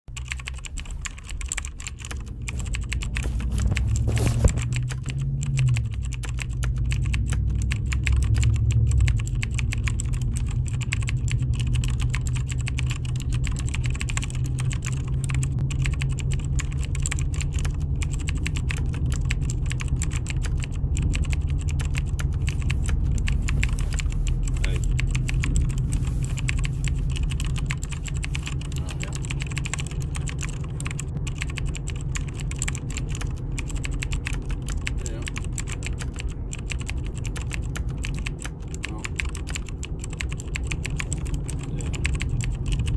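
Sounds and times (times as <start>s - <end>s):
keyboard typing clicks: 0.1s - 42.9s
steady low rumble: 0.1s - 42.9s.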